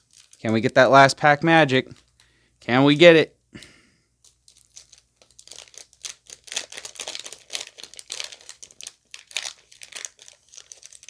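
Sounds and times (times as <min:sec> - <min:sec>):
foil wrapper crinkling: 0:00.0 - 0:02.4, 0:04.2 - 0:11.0.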